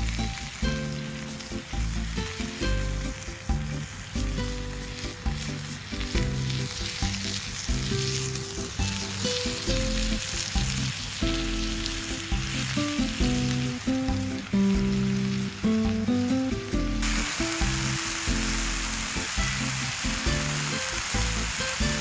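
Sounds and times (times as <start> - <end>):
background music: 0.0 - 22.0
chicken sizzling in a frying pan: 0.0 - 22.0.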